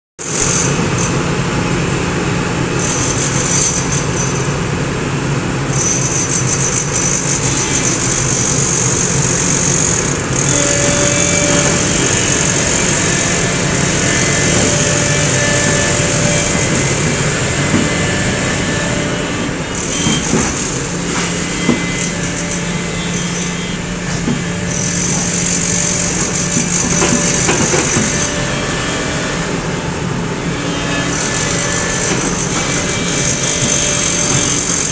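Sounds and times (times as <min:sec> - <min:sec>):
diesel engine running under load: 0:00.2 - 0:34.9
hydraulic whine: 0:00.2 - 0:34.9.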